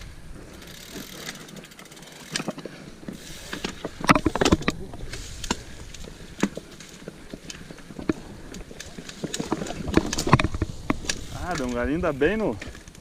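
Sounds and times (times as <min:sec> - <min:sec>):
bike chain and frame rattling: 0:00.0 - 0:13.0.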